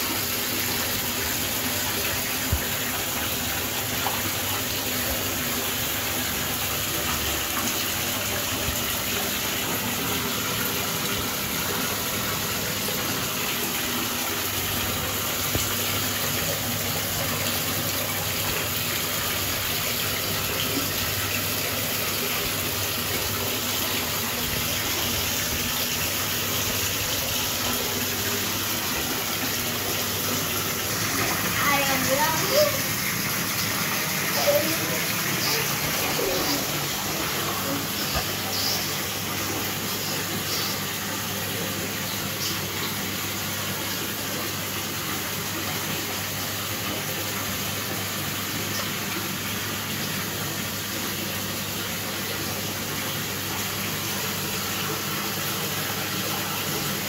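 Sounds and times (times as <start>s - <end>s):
tub jets churning water: 0.0s - 57.0s.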